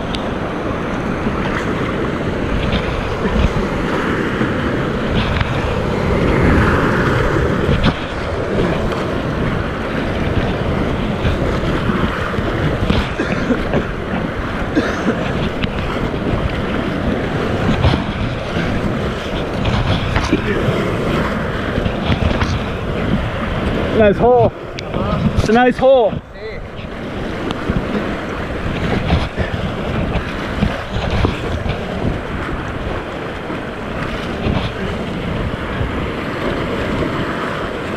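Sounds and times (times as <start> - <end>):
paddles splashing water: 0.0 - 37.9
whitewater rushing: 0.0 - 37.9.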